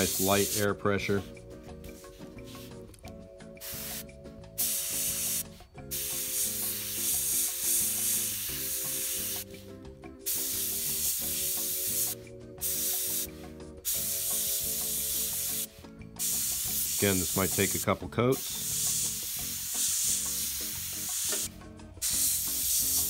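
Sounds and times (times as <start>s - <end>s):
airbrush air hiss: 0.0s - 2.9s, 3.6s - 23.0s.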